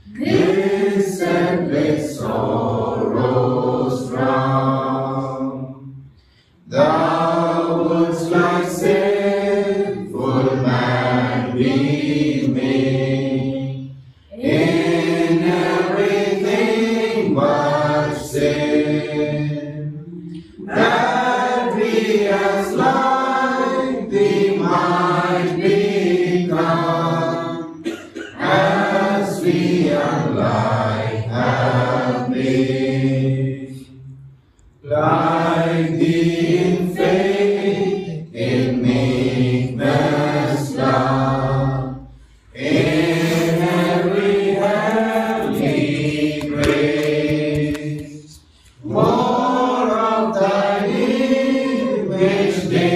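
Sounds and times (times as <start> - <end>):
congregation singing a hymn: 0.0 - 52.9.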